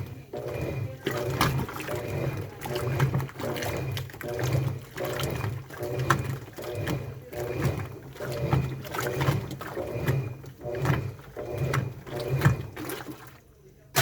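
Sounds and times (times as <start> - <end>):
washing machine motor humming: 0.0 - 14.0
water sloshing in drum: 0.0 - 14.0.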